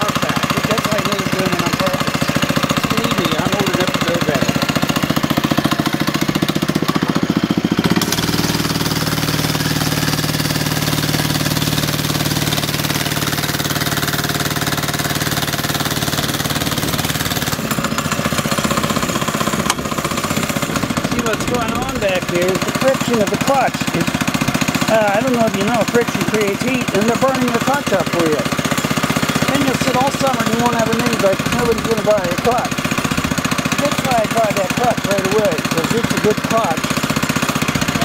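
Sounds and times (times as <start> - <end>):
mini bike engine running: 0.0 - 38.0.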